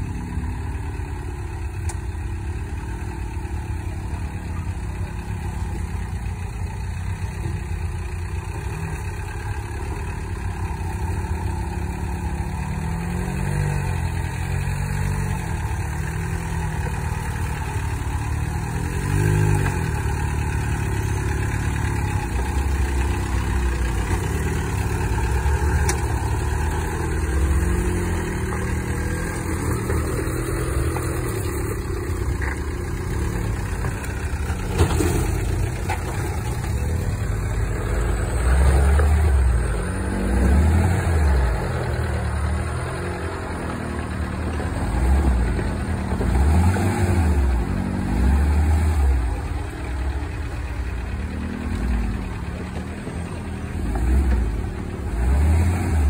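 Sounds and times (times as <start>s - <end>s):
diesel engine running at low revs: 0.0s - 56.0s
engine revving: 10.9s - 56.0s.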